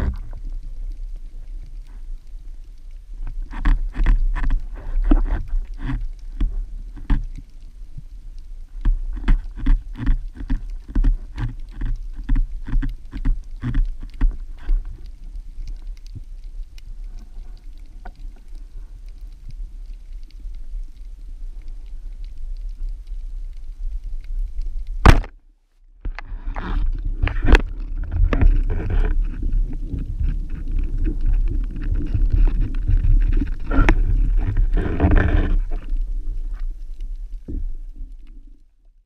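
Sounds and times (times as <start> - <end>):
underwater rumble: 0.0 - 39.0.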